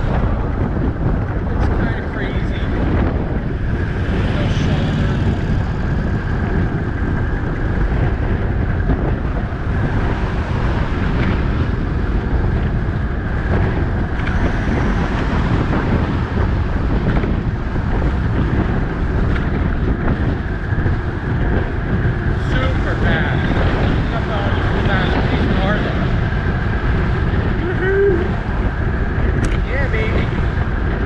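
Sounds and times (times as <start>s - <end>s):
highway traffic noise: 0.0s - 31.0s
wind buffeting microphone: 0.0s - 31.0s.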